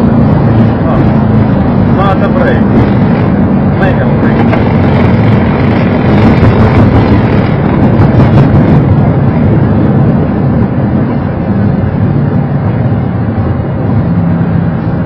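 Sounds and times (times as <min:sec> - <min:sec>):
airplane cockpit rumble on runway: 0:00.0 - 0:15.0.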